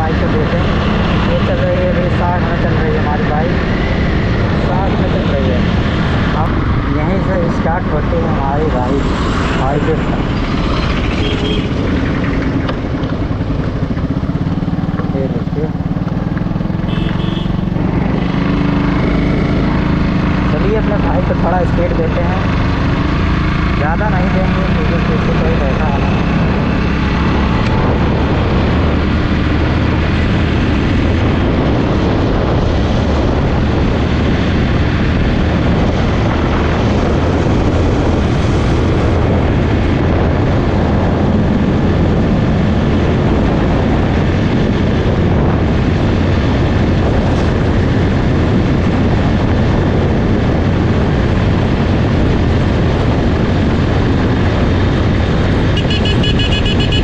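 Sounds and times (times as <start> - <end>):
motorcycle engine roaring: 0.0 - 57.0
wind rush on microphone: 0.0 - 57.0.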